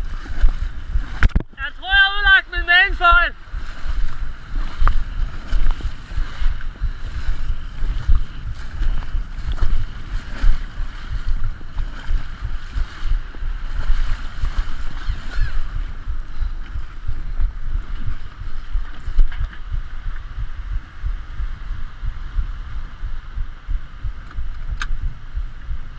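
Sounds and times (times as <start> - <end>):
water rushing: 0.0 - 25.7
wind buffeting microphone: 0.0 - 25.9.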